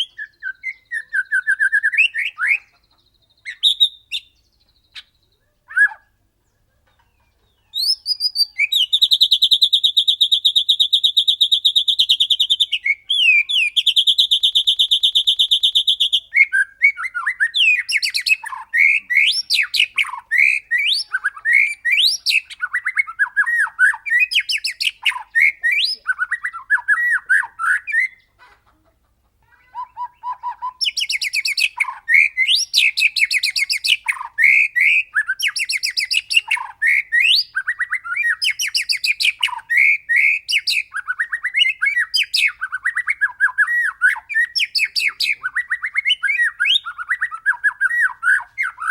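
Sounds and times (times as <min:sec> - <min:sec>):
bird singing trills and whistles: 0:00.0 - 0:28.3, 0:29.8 - 0:48.9.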